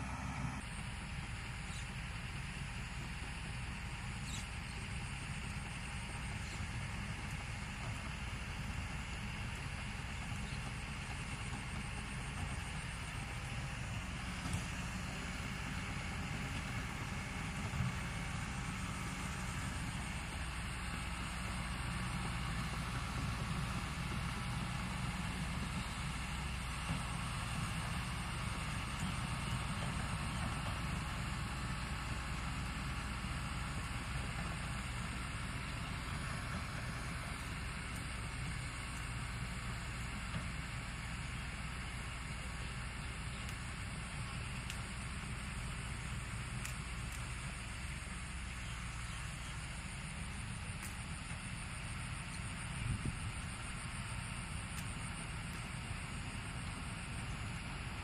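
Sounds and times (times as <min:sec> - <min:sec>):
excavator diesel engine idling: 0:00.0 - 0:58.0.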